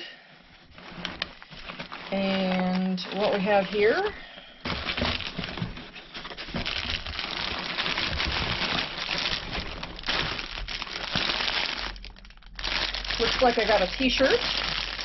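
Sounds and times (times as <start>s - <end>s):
plastic bag crinkling: 0.5s - 15.0s
shredded paper rustling: 0.7s - 15.0s.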